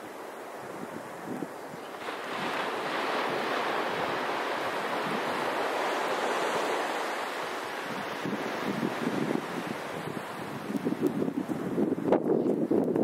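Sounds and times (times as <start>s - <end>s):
ocean surf breaking on sand: 0.0s - 12.7s.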